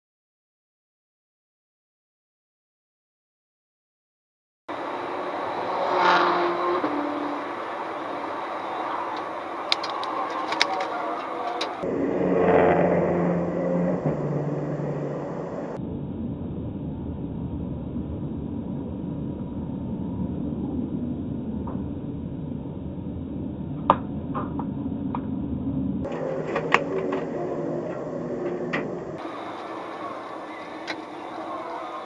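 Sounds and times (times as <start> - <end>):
car road and engine noise: 4.7 - 32.0.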